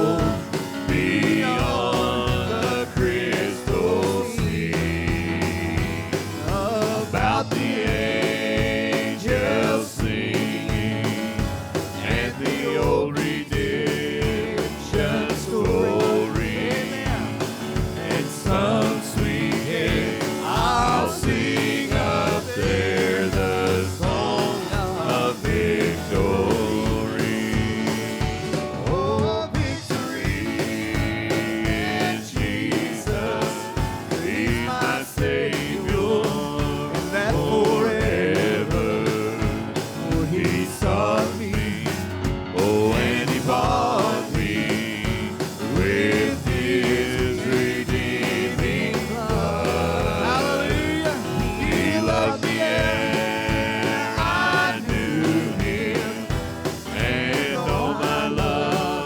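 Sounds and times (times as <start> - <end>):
people singing: 0.0 - 59.0
worship band playing: 0.0 - 59.0.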